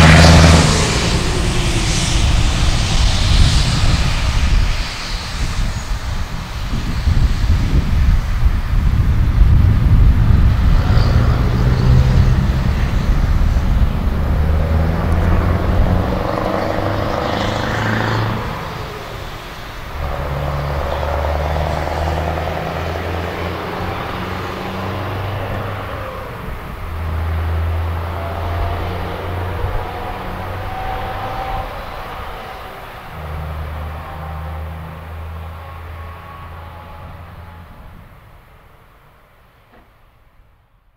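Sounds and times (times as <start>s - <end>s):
train clattering past: 0.0s - 6.8s, 10.1s - 38.5s
engine droning: 0.0s - 40.1s.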